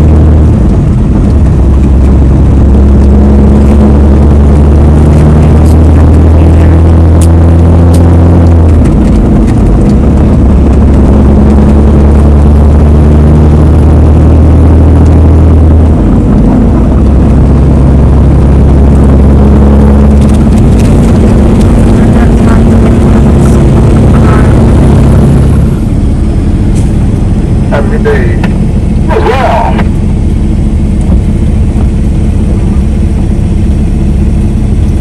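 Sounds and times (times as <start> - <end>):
road noise: 0.0 - 35.0
vehicle engine droning: 0.0 - 35.0.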